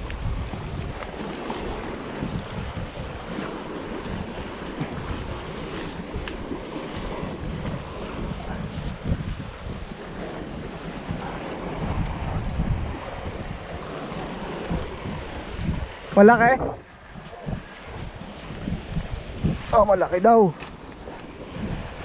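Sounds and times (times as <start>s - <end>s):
waves washing against rocks: 0.0s - 22.0s
wind rumbling on microphone: 0.0s - 22.0s.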